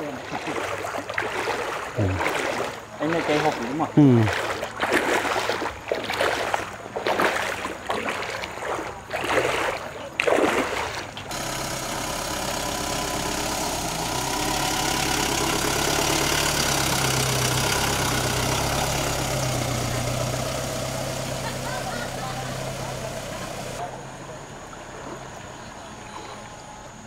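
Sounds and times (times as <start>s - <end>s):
car engine running: 0.8s - 9.5s, 10.1s - 27.0s.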